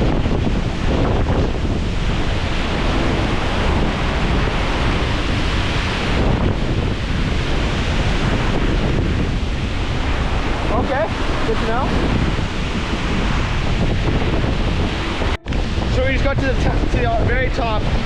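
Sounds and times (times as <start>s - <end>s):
wind gusting on microphone: 0.0s - 18.0s.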